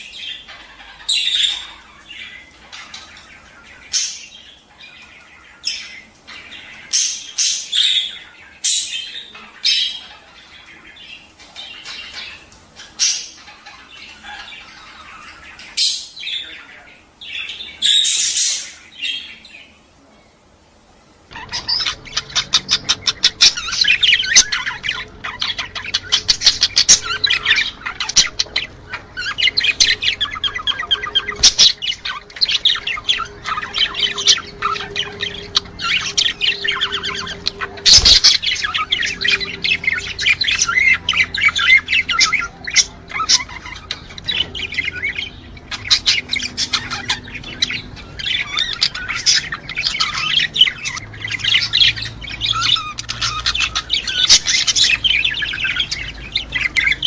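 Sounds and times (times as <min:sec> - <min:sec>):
budgerigars chirping and warbling: 0:00.0 - 0:57.0.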